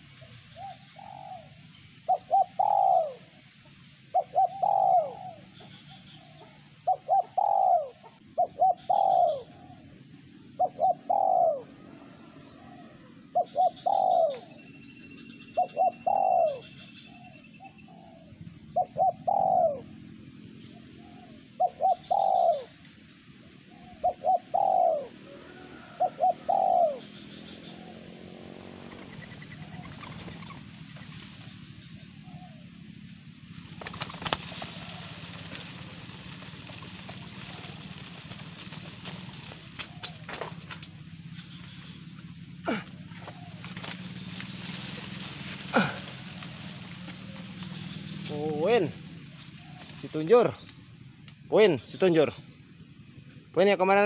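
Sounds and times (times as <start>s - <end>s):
dove cooing: 0.0s - 50.7s.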